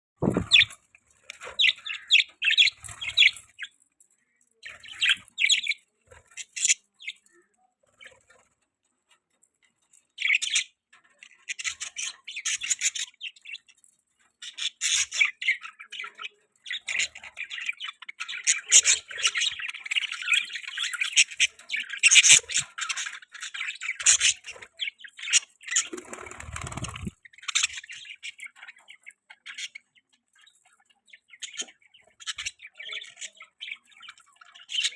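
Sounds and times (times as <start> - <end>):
budgies chirping and chattering: 0.2 - 34.9.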